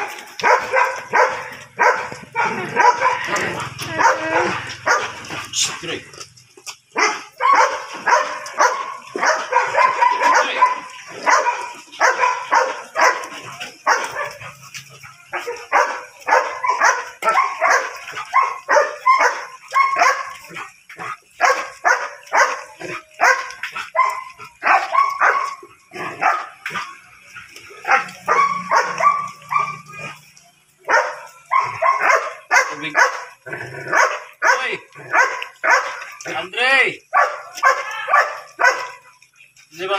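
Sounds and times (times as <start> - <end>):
dog barking: 0.0 - 5.7, 6.9 - 36.3, 37.1 - 39.2.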